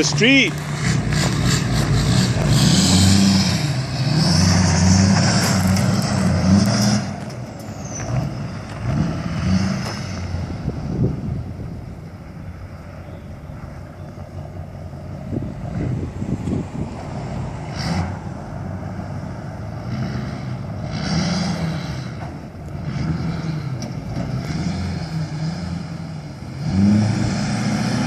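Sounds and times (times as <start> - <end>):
truck engine revving high: 0.0 - 28.0.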